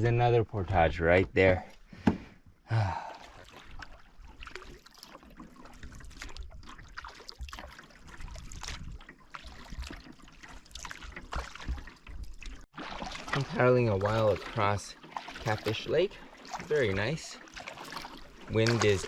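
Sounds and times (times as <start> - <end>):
paddle strokes in water: 3.0 - 19.0
water dripping off paddle: 3.1 - 19.0.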